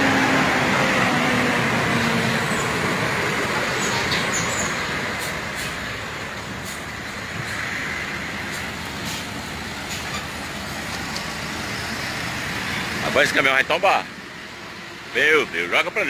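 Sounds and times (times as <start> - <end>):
highway truck traffic: 0.0 - 16.0.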